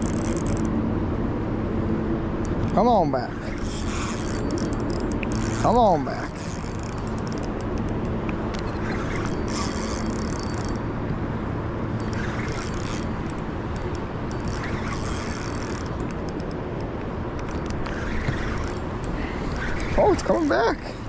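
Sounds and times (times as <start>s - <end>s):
fishing reel clicking and hissing: 0.0s - 0.7s, 2.4s - 10.8s, 11.9s - 20.9s.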